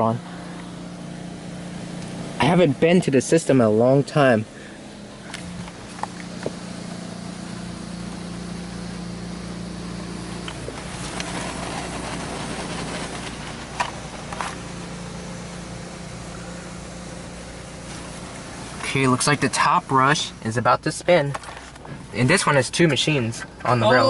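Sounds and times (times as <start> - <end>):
car wash machinery hum: 0.0 - 24.0.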